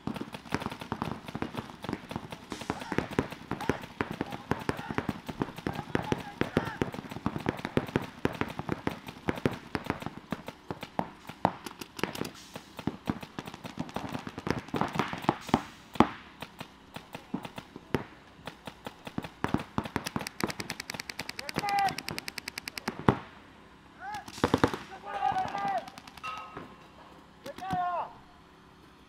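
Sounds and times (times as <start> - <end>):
paintball markers firing: 0.0 - 23.2, 24.1 - 26.6.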